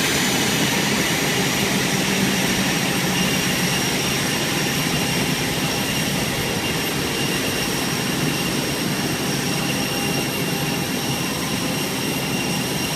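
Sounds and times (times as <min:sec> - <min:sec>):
high-pitched engine whine: 0:00.0 - 0:12.9
jet engines running: 0:00.0 - 0:12.9.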